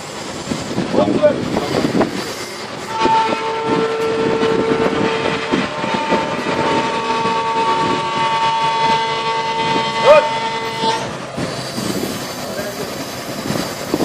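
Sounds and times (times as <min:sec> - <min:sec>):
crane hydraulics whining: 0:00.0 - 0:14.0.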